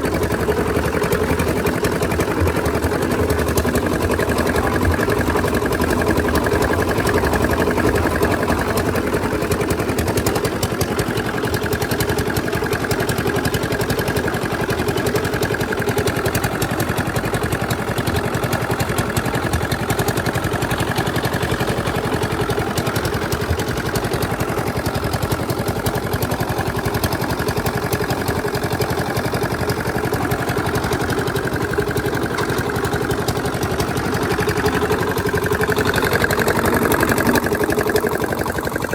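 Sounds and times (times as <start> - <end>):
concrete mixer engine clattering: 0.0 - 38.9.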